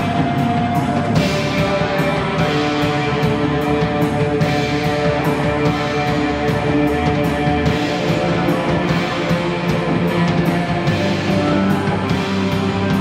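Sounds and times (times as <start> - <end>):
distorted electric guitar: 0.0 - 13.0
heavy rock band playing: 0.0 - 13.0.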